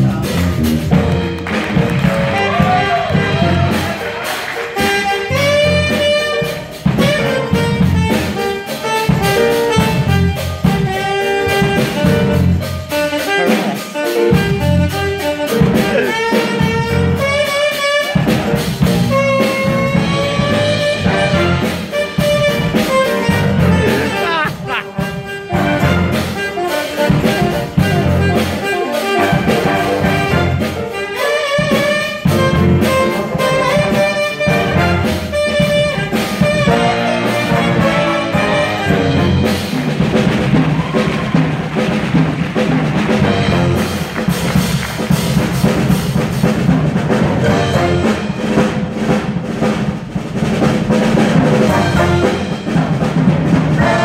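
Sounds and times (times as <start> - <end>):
jazz big band playing: 0.0 - 54.0.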